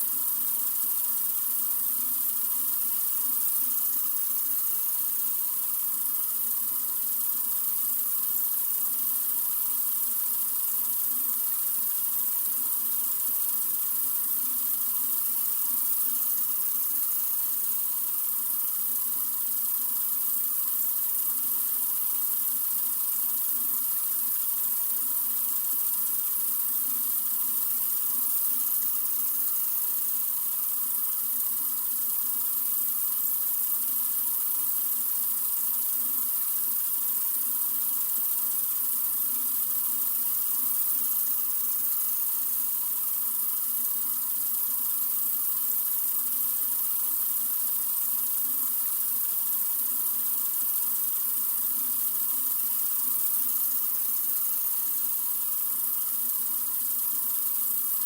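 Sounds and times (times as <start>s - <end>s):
water running from faucet: 0.0s - 58.0s.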